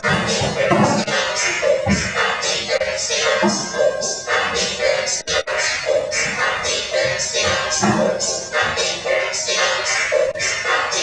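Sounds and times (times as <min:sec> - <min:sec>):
loud music with pulsing beat: 0:00.0 - 0:11.0.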